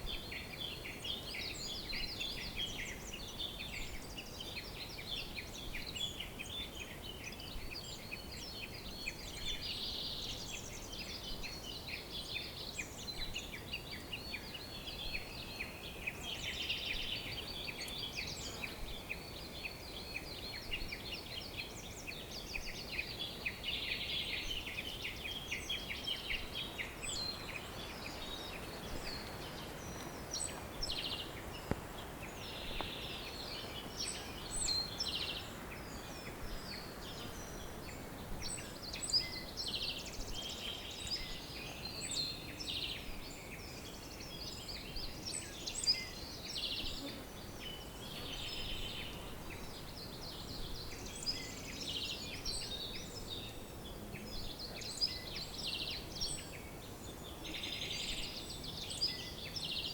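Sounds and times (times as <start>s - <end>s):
birds singing in chorus: 0.0s - 59.9s
steady background hiss: 0.0s - 59.9s.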